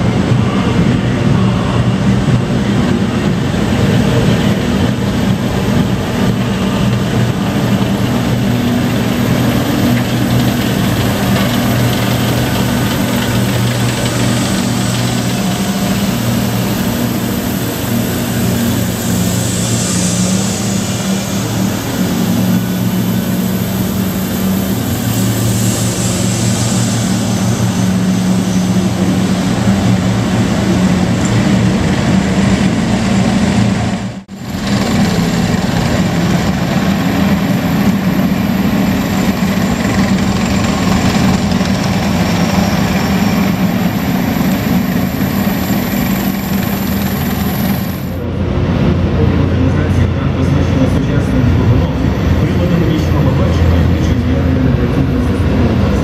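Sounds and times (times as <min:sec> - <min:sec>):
tank engines rumbling: 0:00.0 - 0:56.0.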